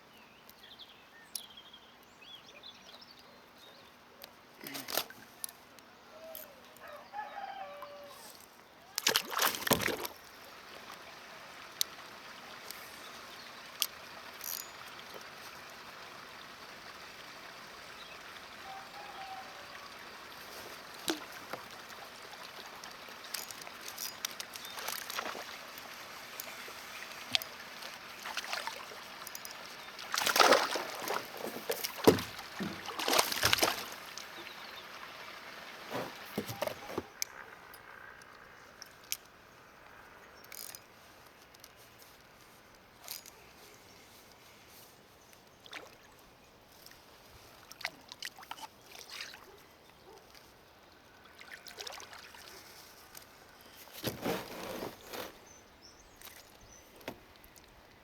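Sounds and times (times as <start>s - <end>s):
water sloshing against a kayak: 7.3s - 39.9s, 40.5s - 58.0s.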